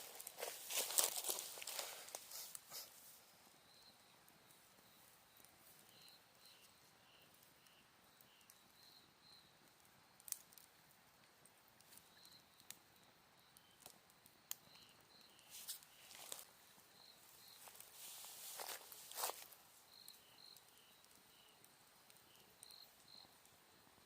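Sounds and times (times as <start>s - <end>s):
campfire crackling: 0.0s - 24.0s
insects chirping: 0.0s - 24.0s.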